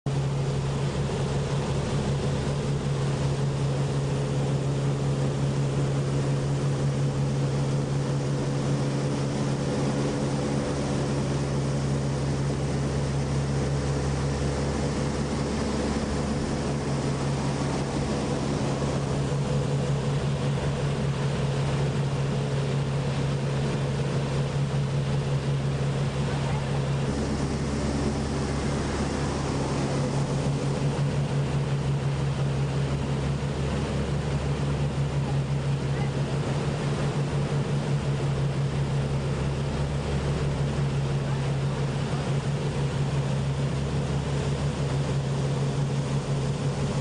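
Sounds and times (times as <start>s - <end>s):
motorboat engine droning: 0.1s - 47.0s
water rushing: 0.1s - 47.0s.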